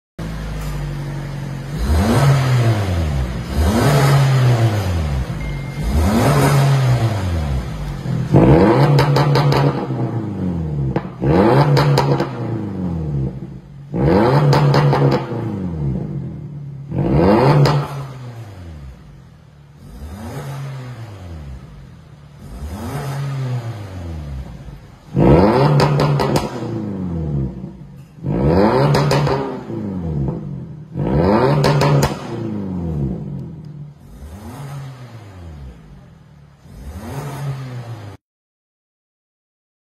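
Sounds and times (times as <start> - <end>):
car engine revving: 0.2 - 38.2.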